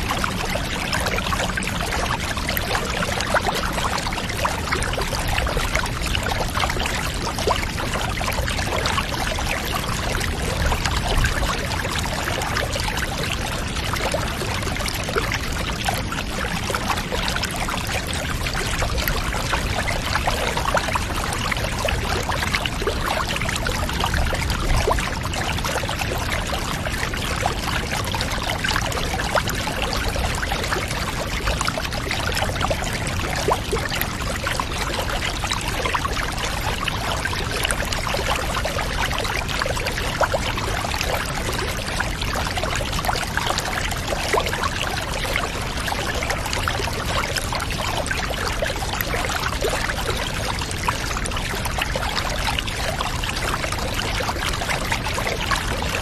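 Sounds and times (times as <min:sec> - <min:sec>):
small splashes and drips: 0:00.0 - 0:56.0.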